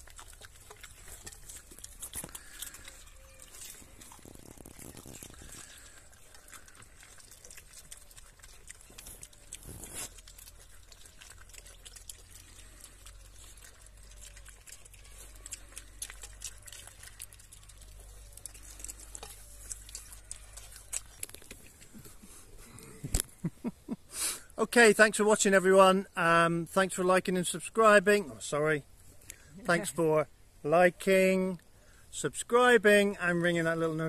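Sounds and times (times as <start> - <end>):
piglets chewing and slurping: 0.0 - 28.2.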